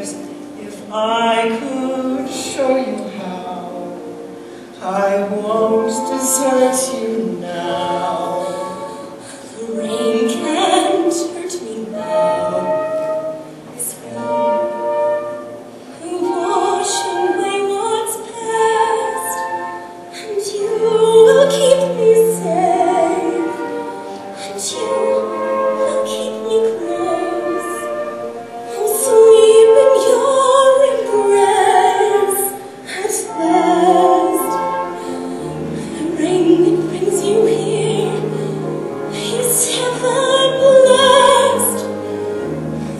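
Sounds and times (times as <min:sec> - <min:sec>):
woman and man singing duet: 0:00.0 - 0:15.2, 0:16.0 - 0:42.3.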